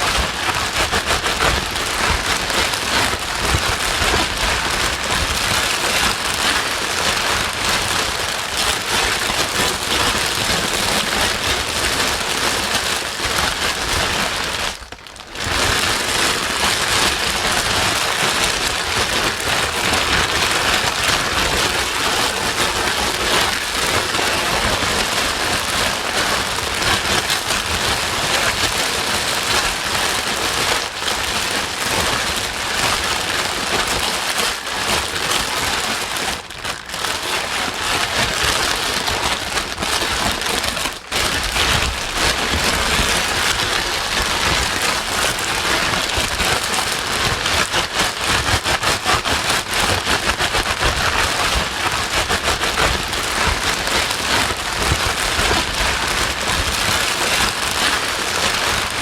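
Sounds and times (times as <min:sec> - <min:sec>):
loud steady white noise: 0:00.0 - 0:59.0.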